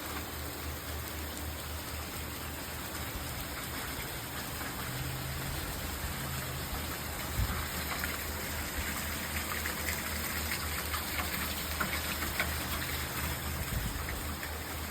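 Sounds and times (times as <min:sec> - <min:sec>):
drips and splashes: 0:00.0 - 0:14.9
steady rain falling: 0:00.0 - 0:14.9.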